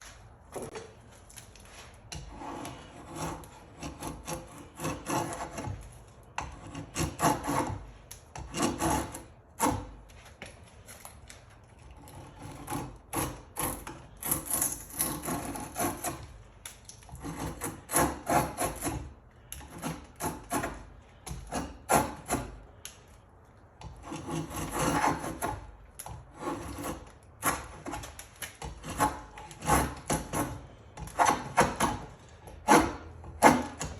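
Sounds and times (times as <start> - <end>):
drawknife shaving wood: 0.0 - 23.2, 23.8 - 33.9.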